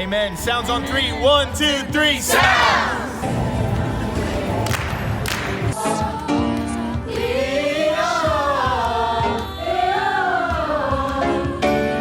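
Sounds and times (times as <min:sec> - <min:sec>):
choir singing held notes: 0:01.7 - 0:12.0.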